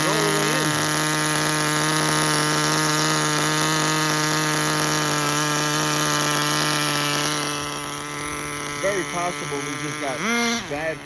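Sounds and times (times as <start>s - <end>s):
small two-stroke engine running: 0.0s - 11.0s.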